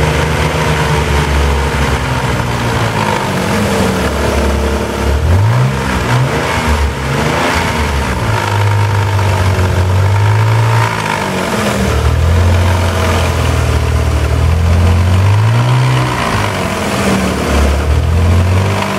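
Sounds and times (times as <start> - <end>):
car engine revving: 0.0 - 18.9
fluttering engine noise: 0.0 - 18.9.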